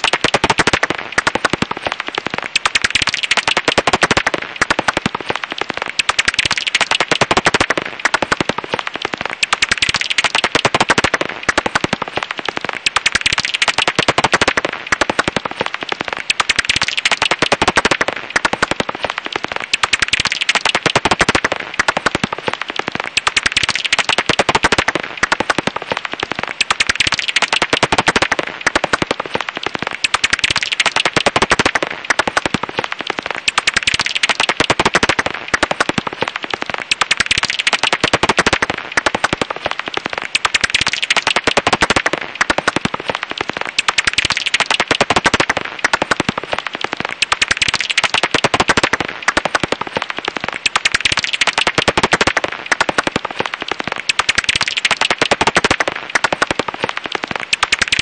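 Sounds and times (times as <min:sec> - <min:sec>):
bat calls crackling clicks: 0:00.0 - 0:58.0.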